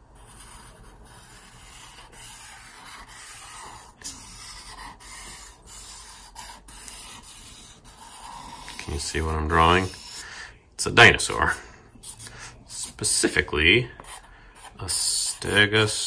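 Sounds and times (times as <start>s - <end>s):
marker rubbing across paper: 0.0s - 10.4s, 11.2s - 16.0s.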